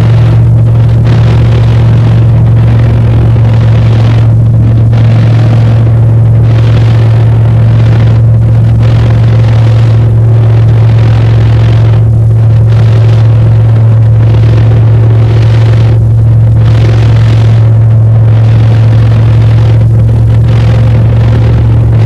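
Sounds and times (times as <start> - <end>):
small plane engine droning: 0.0 - 22.0.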